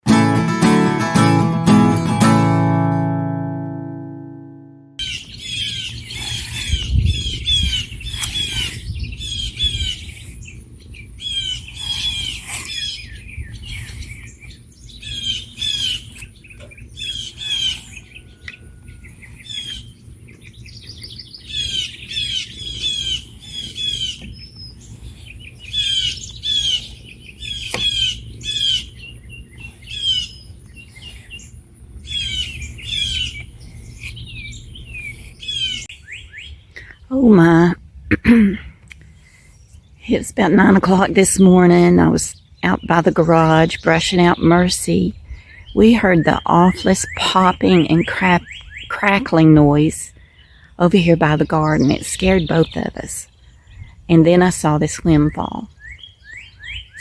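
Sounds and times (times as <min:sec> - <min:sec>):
songbirds chirping: 0:05.0 - 0:57.0.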